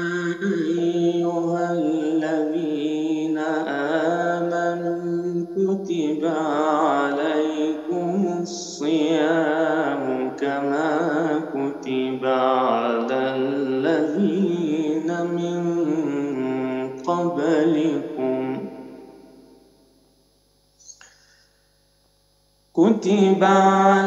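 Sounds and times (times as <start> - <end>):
man chanting melodically: 0.0 - 19.4, 22.8 - 24.0.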